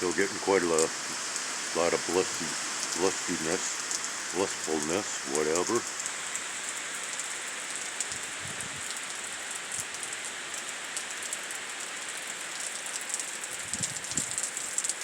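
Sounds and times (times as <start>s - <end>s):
drips from roof edge: 0.0s - 15.0s
rain falling: 0.0s - 15.0s.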